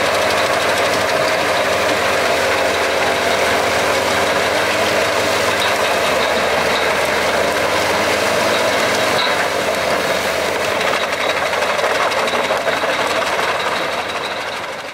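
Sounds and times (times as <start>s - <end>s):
engine running hard: 0.0s - 14.9s
wood chipper cutting logs: 0.0s - 14.9s.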